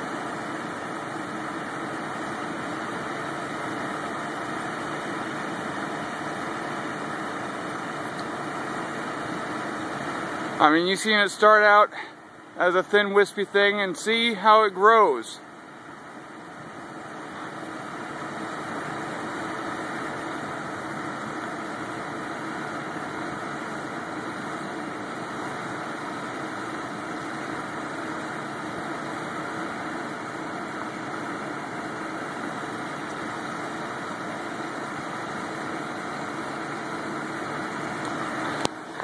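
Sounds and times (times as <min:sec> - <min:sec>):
ventilation equipment humming: 0:00.0 - 0:39.0.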